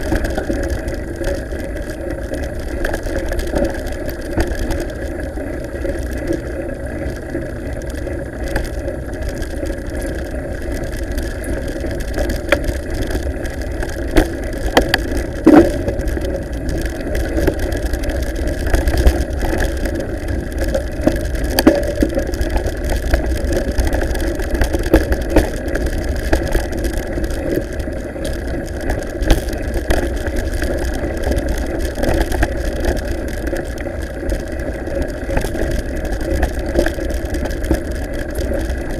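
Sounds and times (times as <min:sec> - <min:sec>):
bike camera rattling on gravel: 0:00.0 - 0:38.9
wind rumble: 0:00.0 - 0:38.9.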